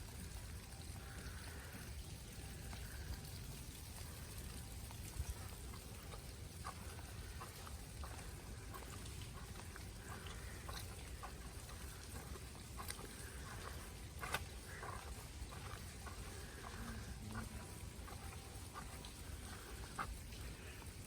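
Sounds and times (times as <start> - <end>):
footsteps in slushy snow: 2.5 - 21.0.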